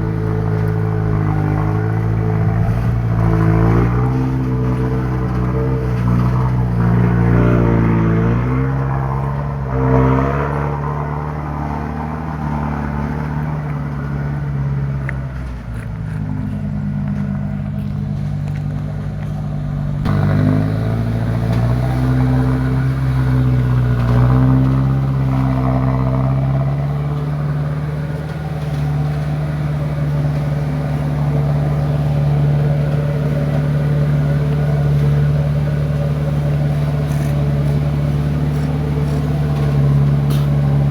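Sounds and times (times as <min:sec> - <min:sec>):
truck diesel engine working hard: 0:00.0 - 0:40.9.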